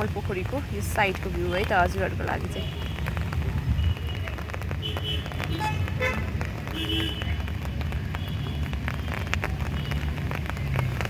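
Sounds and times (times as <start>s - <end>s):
low rumble of city traffic: 0.0s - 11.0s
rain drops ticking: 0.0s - 11.0s.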